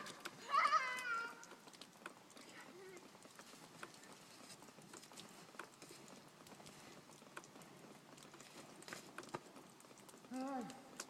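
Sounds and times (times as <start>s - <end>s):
soft clicks or crunches: 0.0s - 11.0s.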